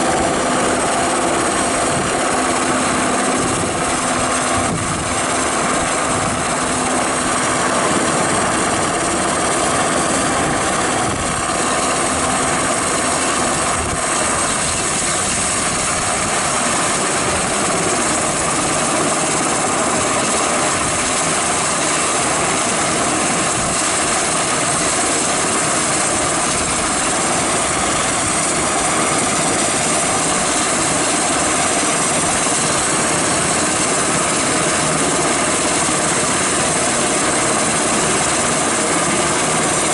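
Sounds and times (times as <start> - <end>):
helicopter rotor noise: 0.0 - 39.9
helicopter turbine whine: 0.0 - 39.9.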